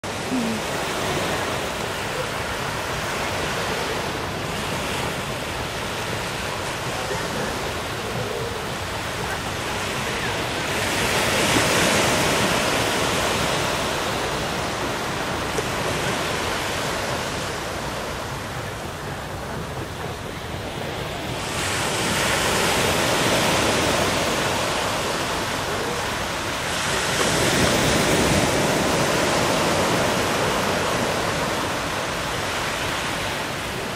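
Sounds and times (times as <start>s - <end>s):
small waves washing onto beach: 0.0s - 33.9s.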